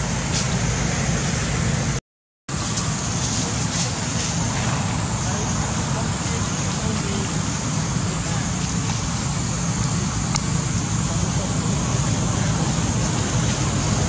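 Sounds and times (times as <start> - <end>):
rumbling outdoor background hiss: 0.0 - 14.0.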